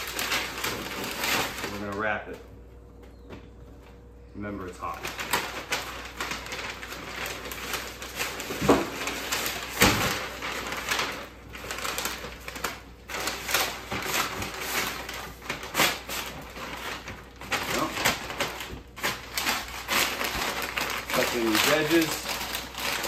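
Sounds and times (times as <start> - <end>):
paper rustling and crinkling: 0.0 - 2.1, 4.8 - 23.0.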